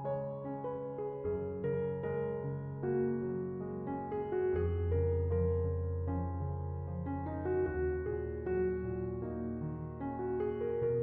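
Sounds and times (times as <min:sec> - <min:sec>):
soft slow piano music: 0:00.0 - 0:11.0.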